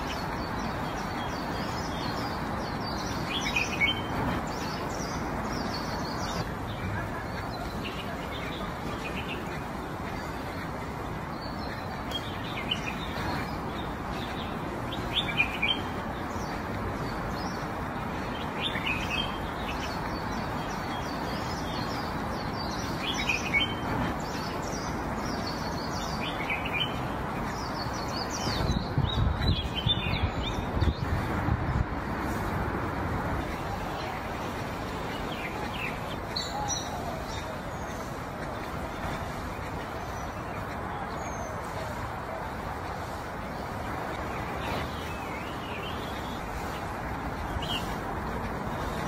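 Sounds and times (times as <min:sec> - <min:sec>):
small birds chirping: 0:00.0 - 0:49.0
steady background hiss: 0:00.0 - 0:49.0.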